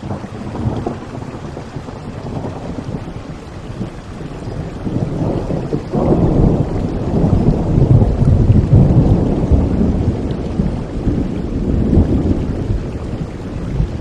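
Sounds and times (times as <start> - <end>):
rolling thunder: 0.0 - 14.0
steady rain: 0.0 - 14.0.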